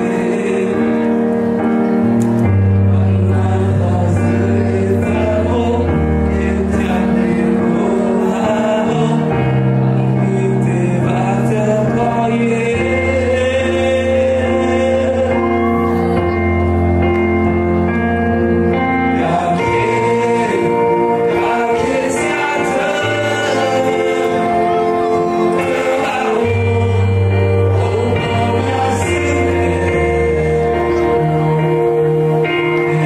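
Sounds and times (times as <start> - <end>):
man singing into microphone: 0.0 - 2.0, 2.7 - 16.2, 19.0 - 33.0
instrumental held chords: 0.0 - 33.0.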